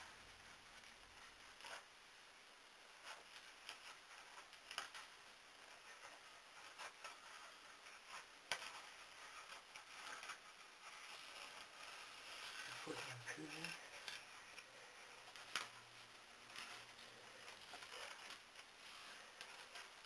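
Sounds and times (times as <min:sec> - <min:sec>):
paper puppet ticks and rustles: 0:00.0 - 0:20.0.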